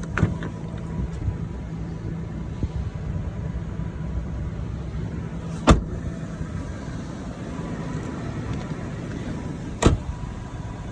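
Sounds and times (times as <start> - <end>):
pickup engine idling: 0.0 - 10.9.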